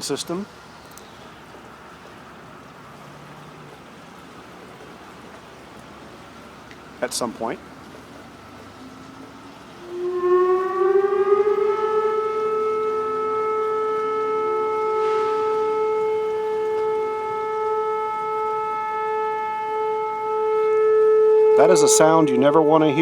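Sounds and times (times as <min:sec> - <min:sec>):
tornado warning siren: 0:00.0 - 0:23.0.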